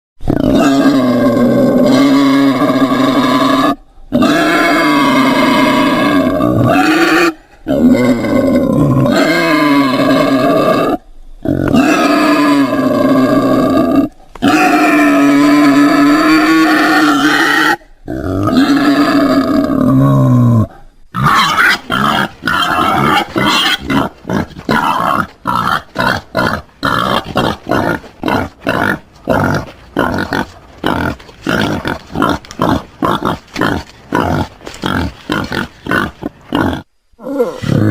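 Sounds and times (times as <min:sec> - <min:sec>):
wild boar grunting: 0:00.2 - 0:37.9
wild boar calling: 0:00.3 - 0:37.9.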